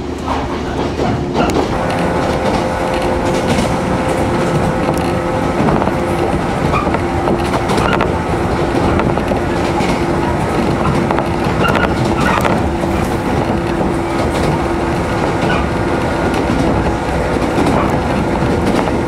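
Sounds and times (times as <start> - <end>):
electric train running: 0.0 - 19.0
wheels clacking over rail joints: 0.0 - 19.0
steady tones: 1.5 - 17.6.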